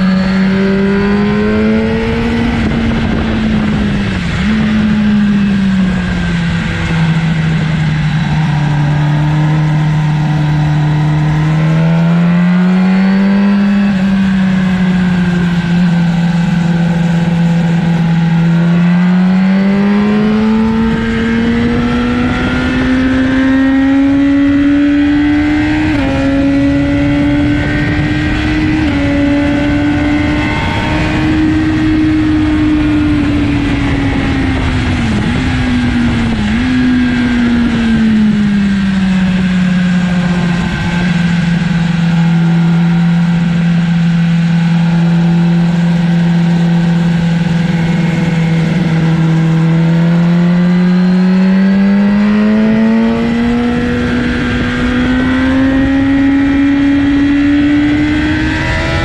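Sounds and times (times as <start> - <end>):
motorcycle engine at speed: 0.0 - 59.0
wind noise: 0.0 - 59.0.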